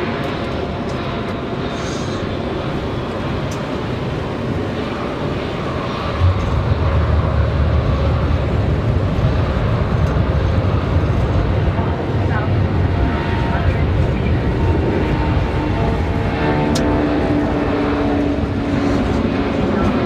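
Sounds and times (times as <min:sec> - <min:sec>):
jet engine and airflow rush: 0:00.0 - 0:20.0
deep rumble: 0:02.4 - 0:20.0.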